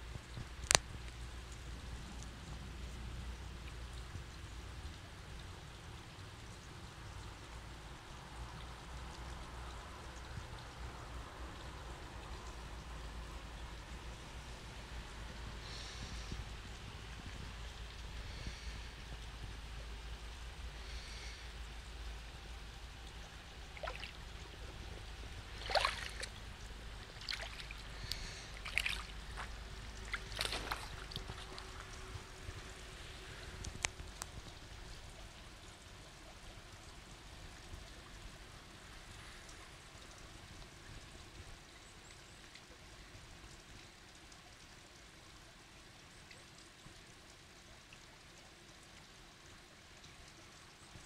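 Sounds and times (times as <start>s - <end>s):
water splashes and drips: 0.0s - 51.0s
water trickling over stones: 0.0s - 51.0s.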